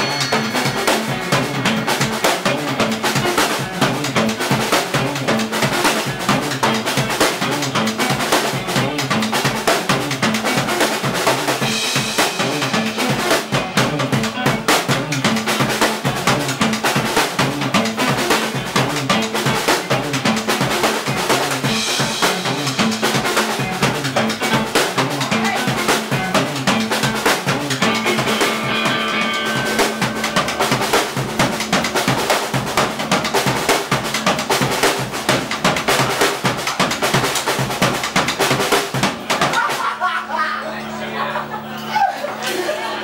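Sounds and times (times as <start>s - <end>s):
drum kit played hard: 0.0s - 41.6s
electric guitar: 0.0s - 43.0s
high guitar phrases: 0.0s - 43.0s.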